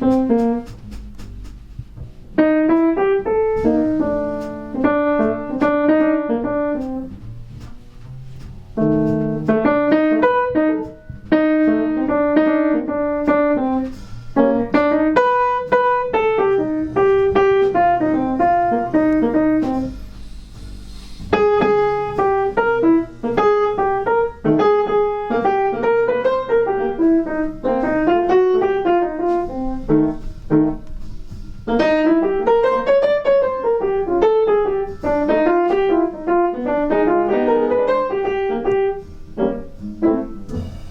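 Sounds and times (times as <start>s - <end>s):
piano melody over chords: 0.0s - 40.9s.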